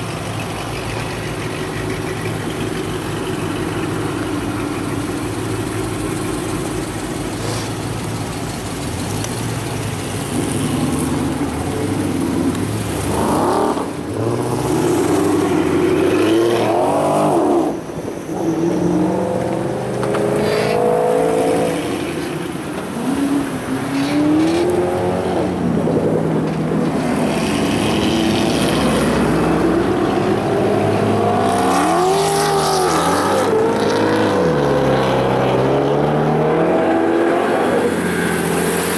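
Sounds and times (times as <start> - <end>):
muscle car engines revving: 0.0 - 38.9.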